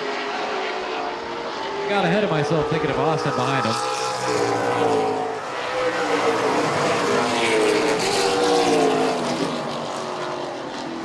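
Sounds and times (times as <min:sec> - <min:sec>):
racing car engines: 0:00.0 - 0:11.0.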